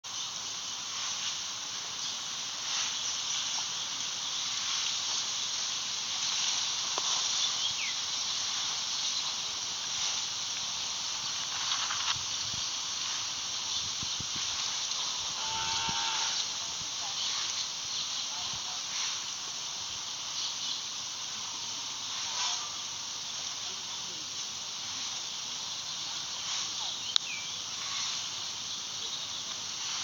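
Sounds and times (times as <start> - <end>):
high-pitched outdoor hiss: 0.0 - 30.0.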